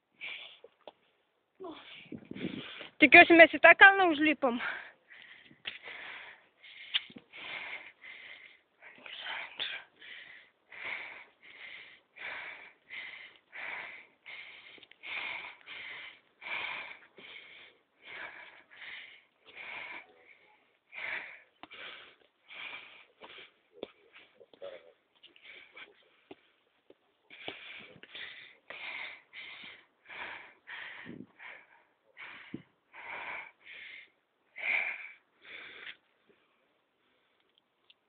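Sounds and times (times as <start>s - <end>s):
person breathing heavily: 1.6s - 3.0s, 4.6s - 24.4s, 25.3s - 26.6s, 27.3s - 36.2s.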